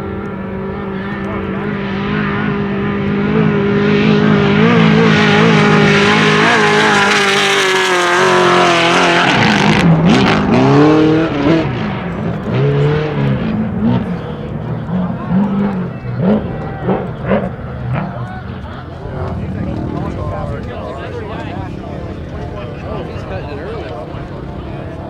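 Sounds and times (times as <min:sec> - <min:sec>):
truck engine revving: 0:00.1 - 0:25.0.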